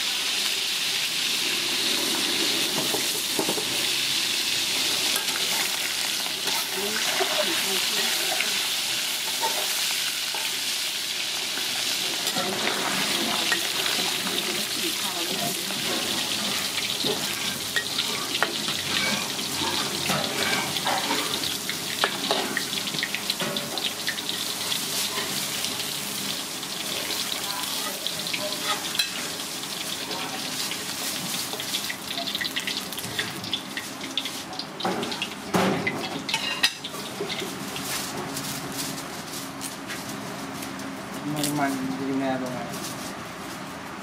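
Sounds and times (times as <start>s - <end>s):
fish deep-frying in oil: 0.0s - 42.6s.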